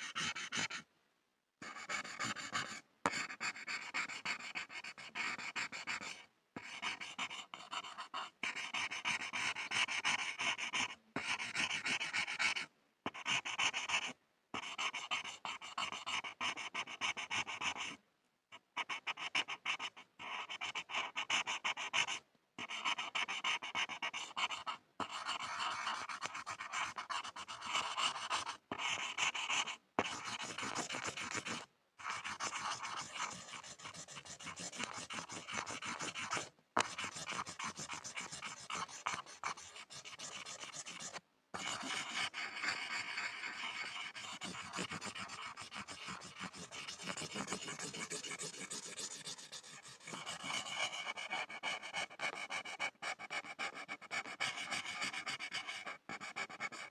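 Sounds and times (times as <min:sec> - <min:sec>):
pencil scribbling on board: 0:00.0 - 0:00.9, 0:01.6 - 0:56.9.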